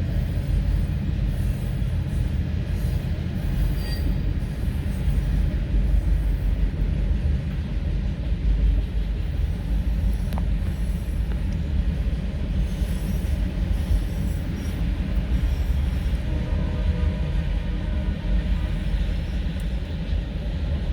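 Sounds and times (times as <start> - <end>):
freight train wheels rumbling: 0.0 - 20.9.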